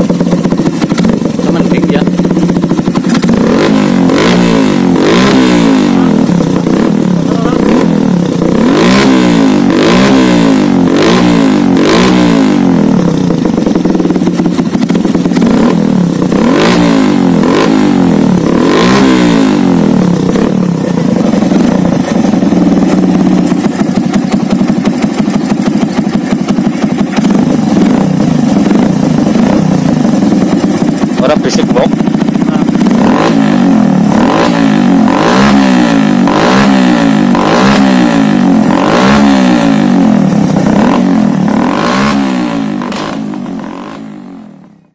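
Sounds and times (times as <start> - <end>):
motorcycle engine revving and idling: 0.0 - 44.9.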